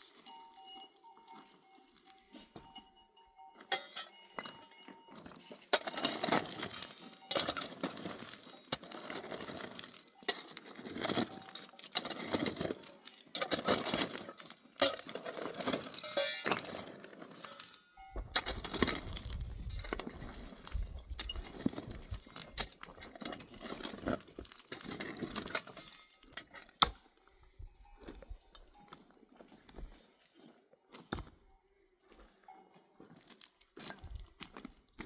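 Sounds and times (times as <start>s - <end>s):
clinking and scraping of hard objects: 0.0s - 35.0s.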